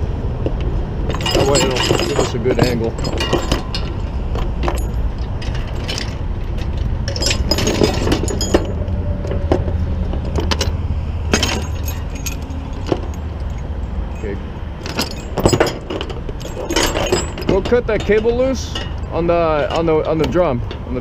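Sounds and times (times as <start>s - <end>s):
low engine rumble: 0.0s - 21.0s
tow chain and hook rattling: 1.0s - 9.1s, 10.1s - 21.0s.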